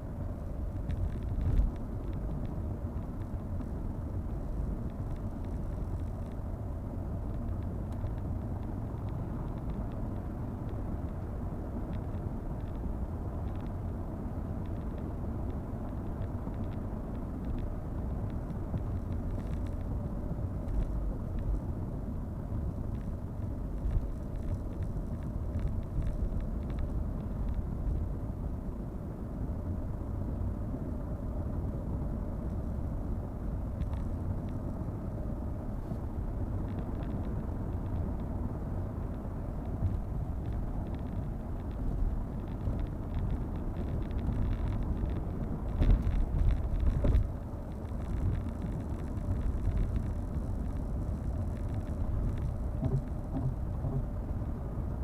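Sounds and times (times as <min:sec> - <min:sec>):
car driving rumble: 0:00.0 - 0:55.0
faint steady hum: 0:00.0 - 0:55.0.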